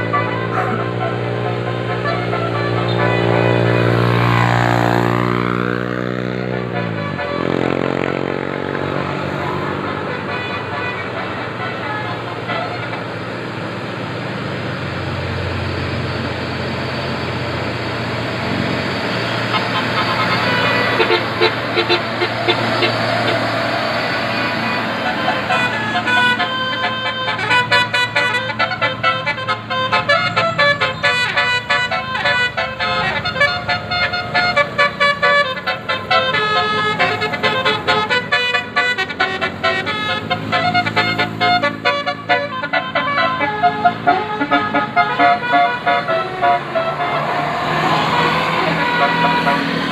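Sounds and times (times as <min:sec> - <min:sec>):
multi-tone bus horn notes: 0:00.0 - 0:14.2, 0:15.0 - 0:49.9
bus engine drone: 0:00.0 - 0:49.9
road traffic: 0:00.0 - 0:49.9.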